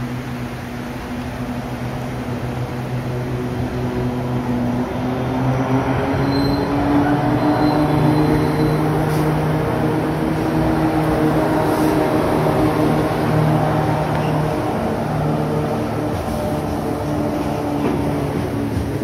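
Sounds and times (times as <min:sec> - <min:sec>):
diesel locomotives droning: 0:00.0 - 0:19.0.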